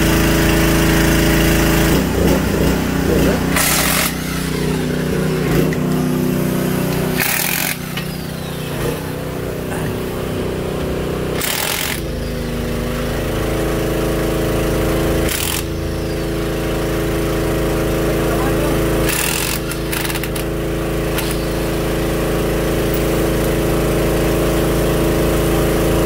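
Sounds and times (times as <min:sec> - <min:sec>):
impact wrench bursts: 0:00.0 - 0:26.0
steady mechanical hum: 0:00.0 - 0:26.0.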